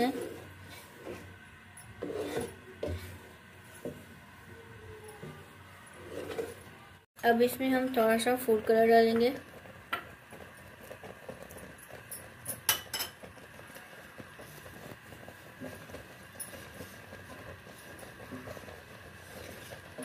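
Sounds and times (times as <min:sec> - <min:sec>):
wooden spoon stirring in pot: 0:00.0 - 0:20.0.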